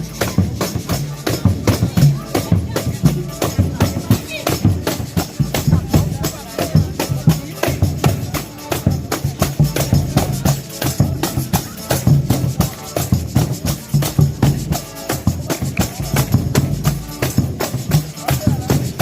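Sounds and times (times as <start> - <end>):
tambourine and drum rhythm: 0.0 - 19.0.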